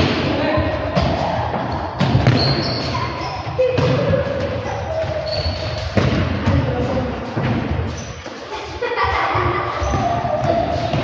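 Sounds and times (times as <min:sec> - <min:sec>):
shoes squeaking: 0:00.9 - 0:11.0.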